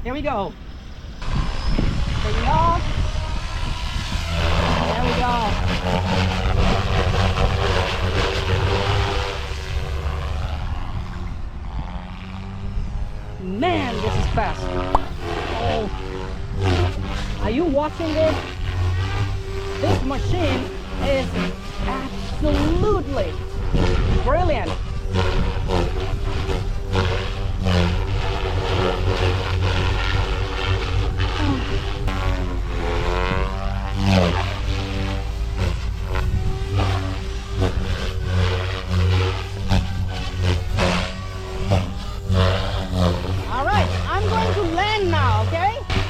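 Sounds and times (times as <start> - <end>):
electric motor hum: 0.0 - 46.0
helicopter rotor blades chopping: 0.0 - 46.0
low rumble: 0.0 - 46.0.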